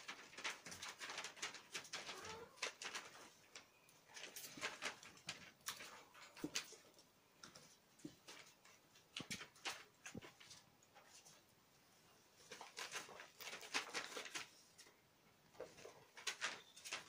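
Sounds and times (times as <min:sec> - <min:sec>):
kittens' paws scrabbling on sheet: 0:00.0 - 0:11.5, 0:12.3 - 0:17.0.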